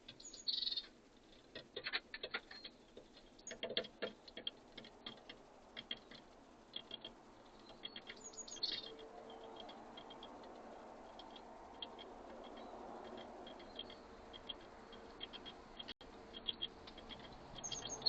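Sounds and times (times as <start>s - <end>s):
birds pecking at feeder: 0.0s - 18.0s.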